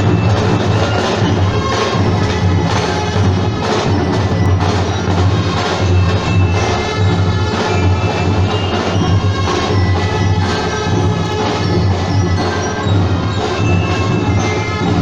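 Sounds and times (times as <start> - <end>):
bright pitched percussion: 0.0 - 15.0
drum and bugle corps march: 0.0 - 15.0
drums beating steady rhythm: 0.0 - 15.0.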